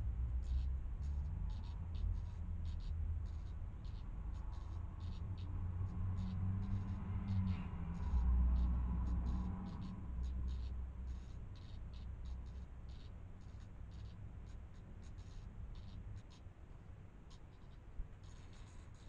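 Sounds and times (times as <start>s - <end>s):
nestlings scratching ticks: 0.0s - 19.0s
steady low rumble: 0.0s - 19.0s.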